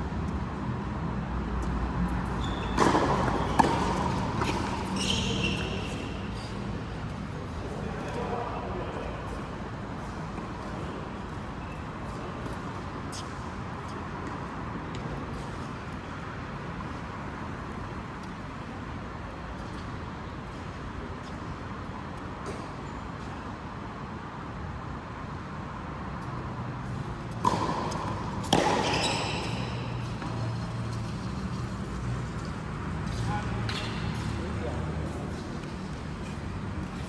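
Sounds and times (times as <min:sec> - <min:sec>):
steady background noise: 0:00.0 - 0:37.0.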